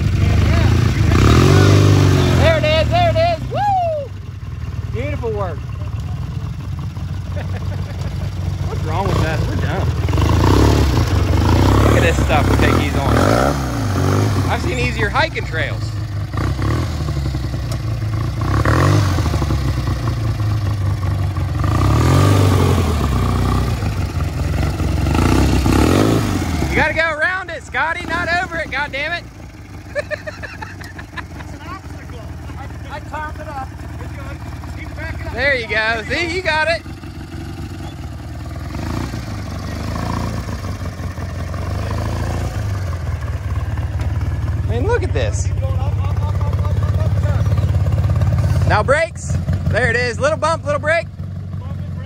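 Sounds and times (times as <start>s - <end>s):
lawn tractor engine revving: 0.0s - 3.6s, 4.9s - 52.0s.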